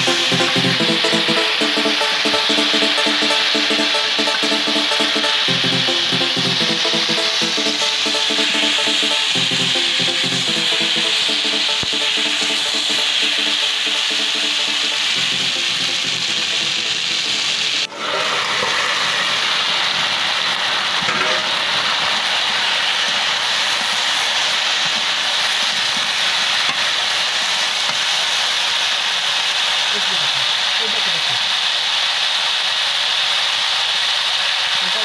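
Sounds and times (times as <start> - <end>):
vegetables sizzling in oil: 6.4 - 35.0.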